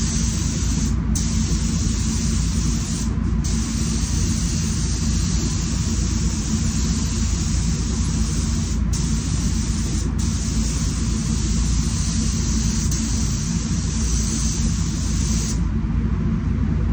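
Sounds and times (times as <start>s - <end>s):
spray gun hissing: 0.0s - 15.7s
steady low rumble: 0.0s - 16.9s.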